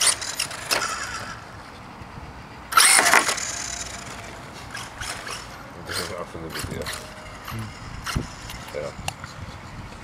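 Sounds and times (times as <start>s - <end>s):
electric rc car motors whining: 0.0s - 1.8s, 2.7s - 10.0s.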